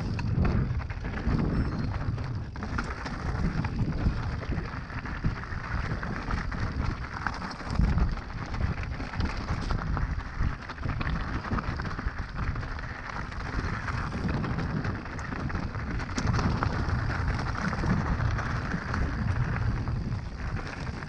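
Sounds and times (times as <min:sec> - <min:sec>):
bike tyres rolling: 0:00.0 - 0:21.0
rattles and clicks over stones: 0:00.0 - 0:21.0
wind buffeting microphone: 0:00.0 - 0:21.0.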